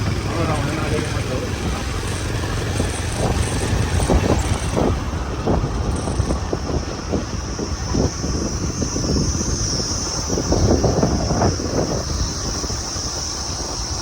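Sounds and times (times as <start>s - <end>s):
motorbike engine running: 0.0s - 14.0s
wind rumbling on microphone: 0.0s - 14.0s.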